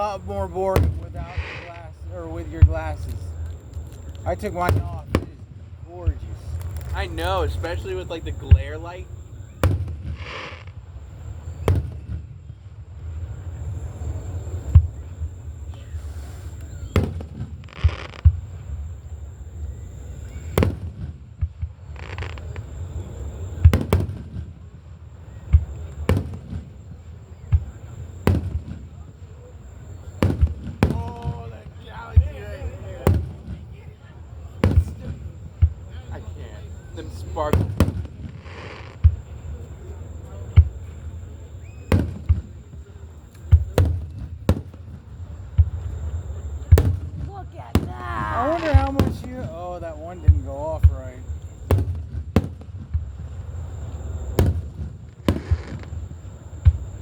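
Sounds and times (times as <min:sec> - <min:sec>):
fireworks booming: 0:00.0 - 0:57.0.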